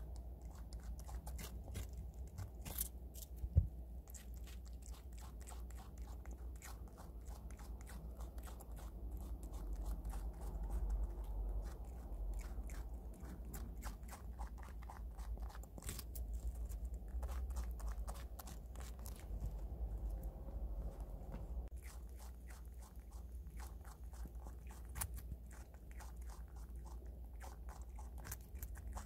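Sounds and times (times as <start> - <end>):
animal crunching raw radish: 0.0 - 20.4, 21.7 - 29.0.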